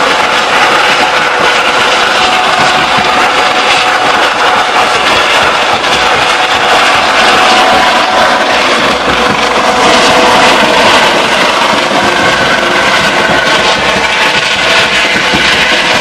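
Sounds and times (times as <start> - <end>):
helicopter flying overhead: 0.0 - 16.0.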